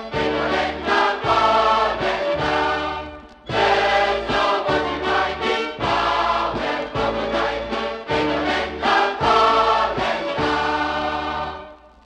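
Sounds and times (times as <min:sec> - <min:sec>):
choir singing: 0:00.0 - 0:11.9.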